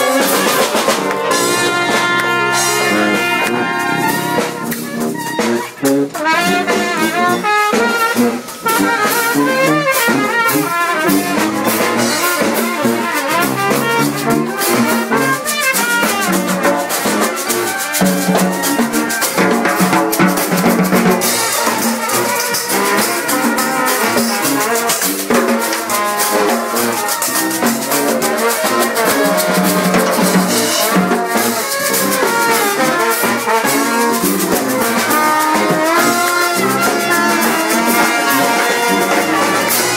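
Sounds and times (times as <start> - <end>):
brass band horns playing melody: 0.0 - 39.9
constant percussion: 0.0 - 39.9.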